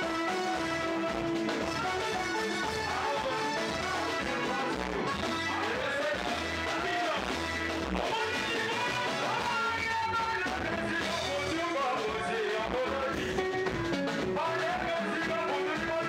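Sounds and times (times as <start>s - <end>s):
live rumba band music: 0.0s - 16.0s.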